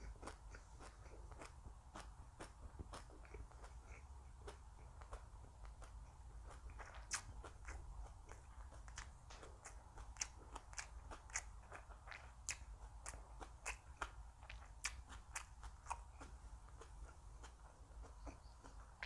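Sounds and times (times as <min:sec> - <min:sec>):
chewing crisp food: 0:00.0 - 0:19.0
low steady hum: 0:00.0 - 0:19.0
mouth clicks: 0:00.0 - 0:19.0.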